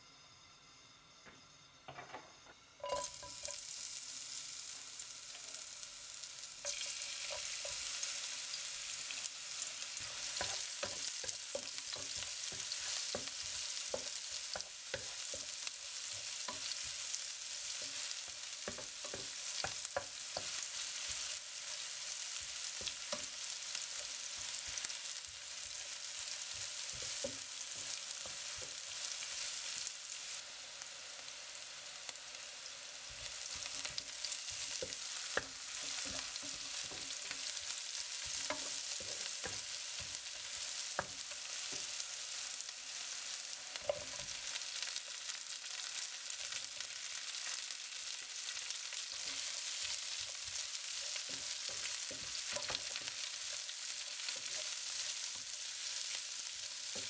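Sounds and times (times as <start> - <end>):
onion sizzling in hot oil: 0.0 - 57.0.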